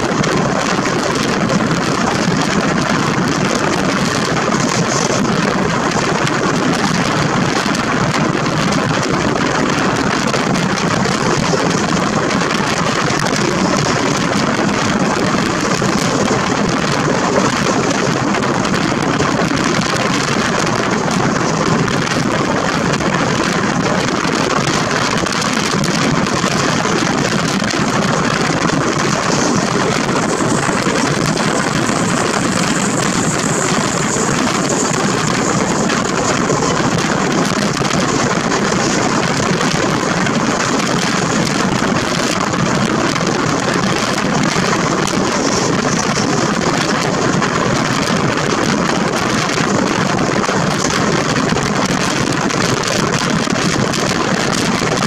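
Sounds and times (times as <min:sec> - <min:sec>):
rushing wind: 0:00.0 - 0:55.0
wheel-on-rail running noise: 0:00.0 - 0:55.0
wind buffeting microphone: 0:00.0 - 0:55.0.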